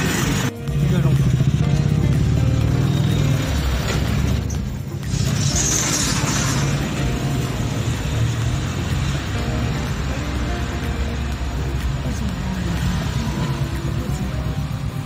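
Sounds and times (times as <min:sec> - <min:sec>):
car engine and road noise: 0:00.0 - 0:15.0
music playing: 0:00.0 - 0:15.0.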